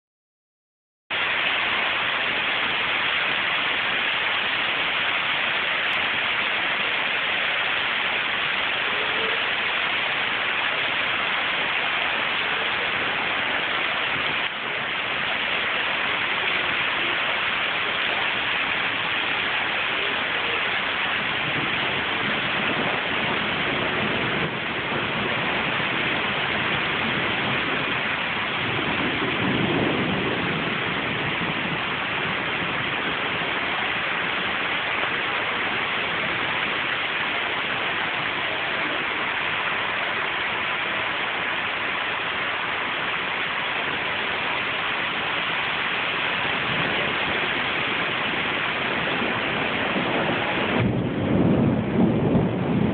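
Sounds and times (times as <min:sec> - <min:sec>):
heavy rain pouring: 0:01.1 - 0:52.9.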